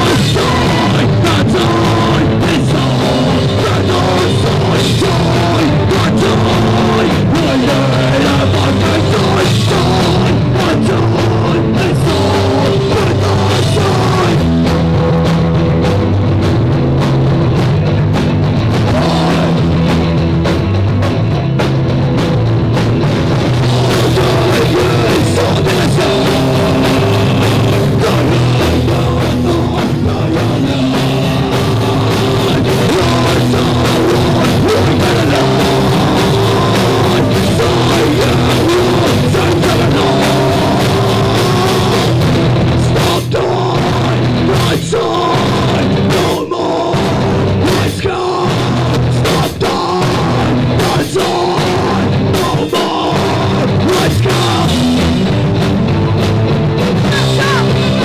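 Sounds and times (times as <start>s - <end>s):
punk rock band playing live: 0.0s - 58.0s.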